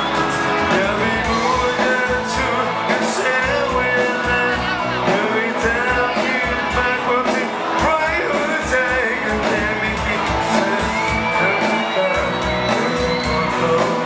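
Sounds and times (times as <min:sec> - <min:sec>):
live rock band with guitar: 0:00.0 - 0:14.0
man singing into a microphone: 0:00.6 - 0:14.0.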